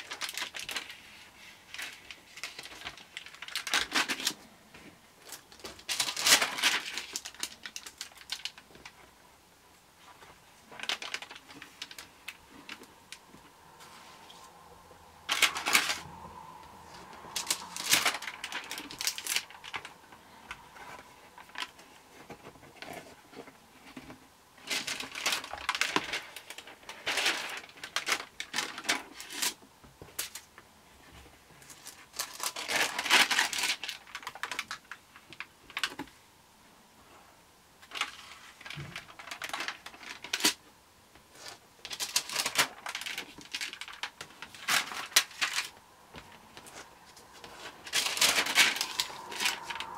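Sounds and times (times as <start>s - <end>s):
stiff pages rustling: 0.0s - 9.2s, 10.0s - 14.6s, 15.2s - 36.2s, 37.8s - 49.9s.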